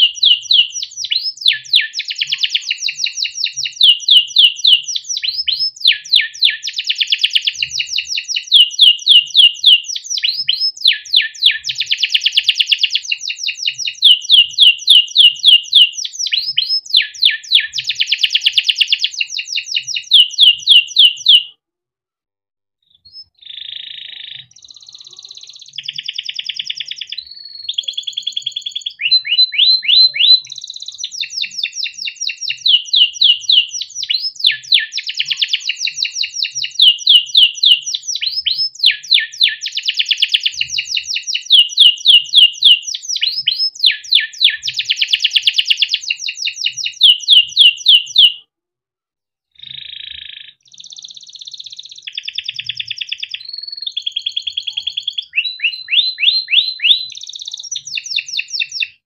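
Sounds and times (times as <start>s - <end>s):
canary singing trills: 0.0s - 21.5s, 22.9s - 48.4s, 49.6s - 59.0s.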